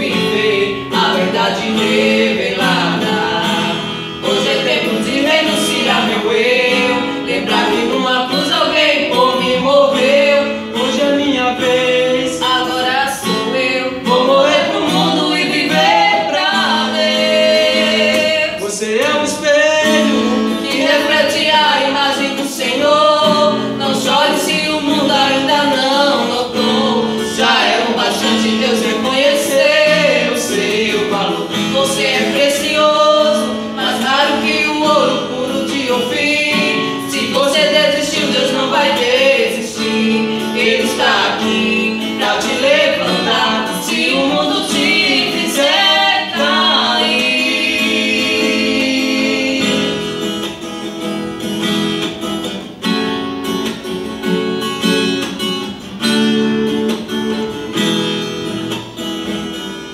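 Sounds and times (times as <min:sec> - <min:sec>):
man and woman singing gospel: 0:00.0 - 0:50.6
strummed acoustic guitar: 0:00.0 - 0:59.9.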